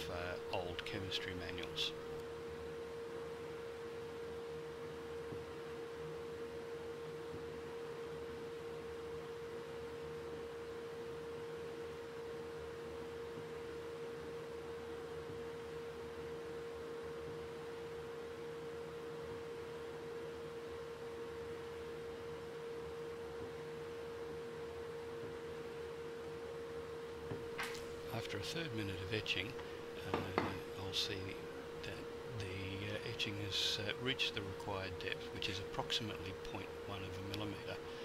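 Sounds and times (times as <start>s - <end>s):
welder whine: 0.0s - 38.0s.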